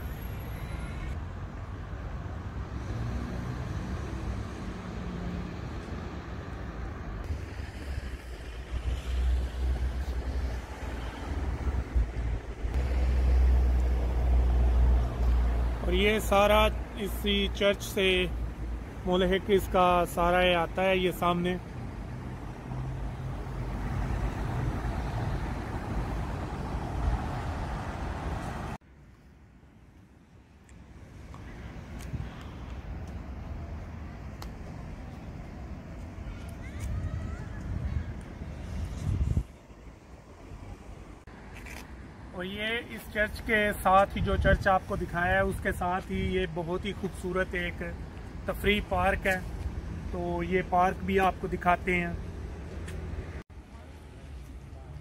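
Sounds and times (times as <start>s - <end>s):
vehicle engine and tyre noise: 0.0s - 55.0s.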